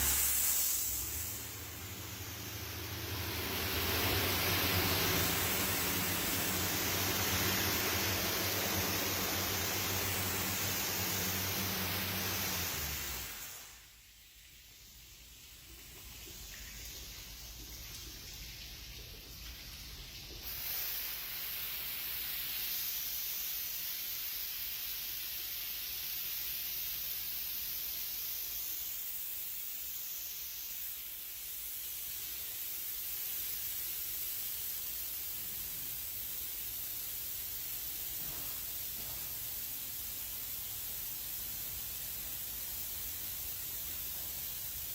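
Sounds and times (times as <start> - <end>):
car wash water jets spraying: 0.0 - 44.9.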